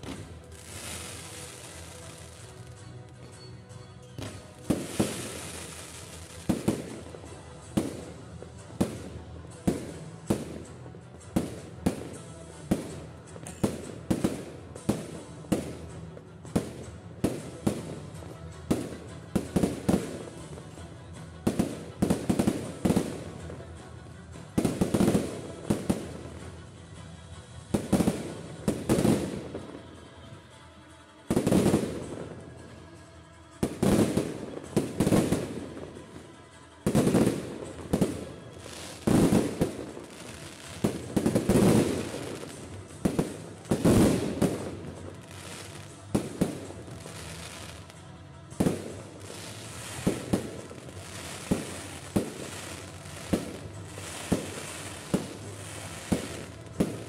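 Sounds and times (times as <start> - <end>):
fireworks bursting with booms: 0.0 - 3.4, 4.2 - 20.8, 21.4 - 23.7, 24.6 - 26.5, 27.7 - 29.8, 33.6 - 57.0.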